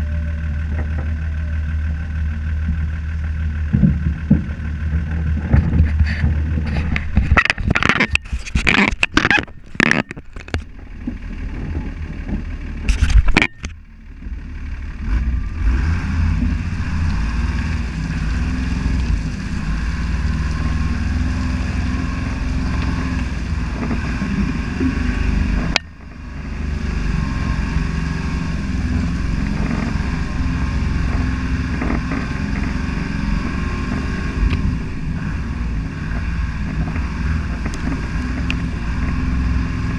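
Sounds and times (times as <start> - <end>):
branches scraping vehicle: 0.0 - 39.9
diesel engine under load: 0.0 - 39.9
tyres through mud: 0.0 - 39.9.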